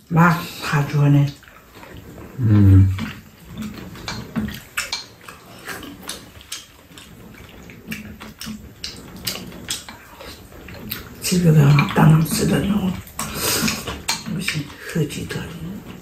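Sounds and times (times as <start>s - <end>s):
slurping soup: 0.4s - 16.0s.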